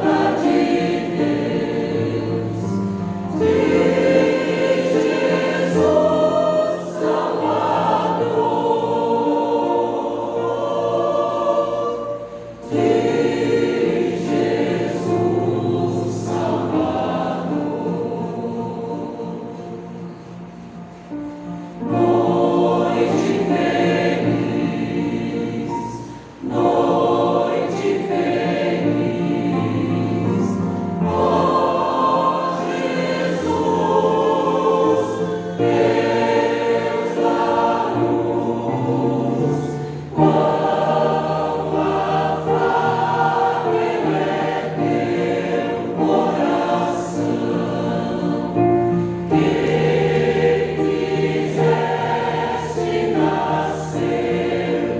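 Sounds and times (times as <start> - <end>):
choir singing sustained chords: 0.0 - 54.9.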